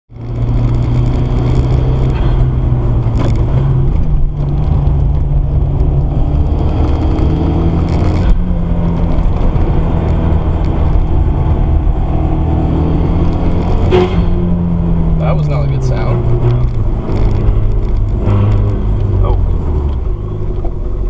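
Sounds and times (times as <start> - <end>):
turbocharged car engine running: 0.2 - 21.0.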